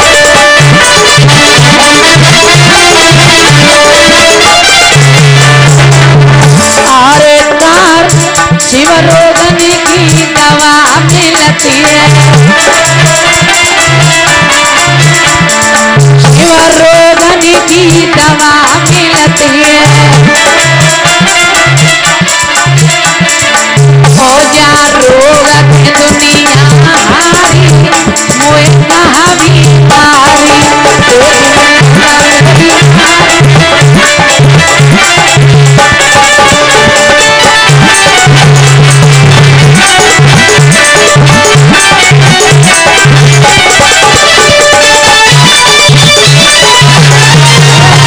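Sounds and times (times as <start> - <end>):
folk dance melody: 0.0 - 48.0.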